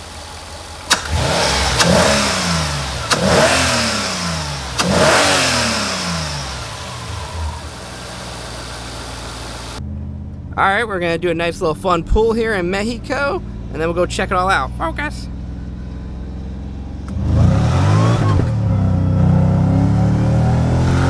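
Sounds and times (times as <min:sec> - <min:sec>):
car engine idling: 0:00.0 - 0:18.8
car engine revving: 0:00.0 - 0:21.0.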